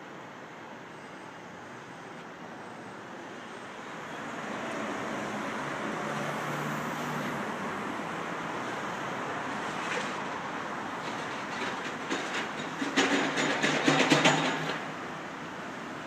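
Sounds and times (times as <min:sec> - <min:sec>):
vehicle traffic: 0:00.0 - 0:16.0.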